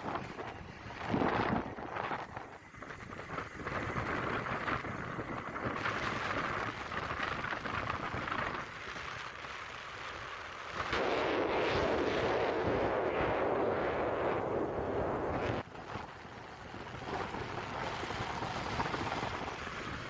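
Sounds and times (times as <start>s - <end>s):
motorbike running: 0.0s - 11.0s, 12.2s - 20.0s
wind buffeting microphone: 0.0s - 20.0s.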